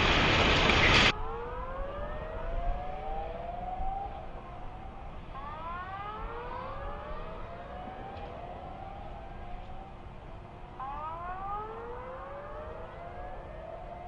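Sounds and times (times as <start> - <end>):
sirens wailing: 0.0 - 14.0.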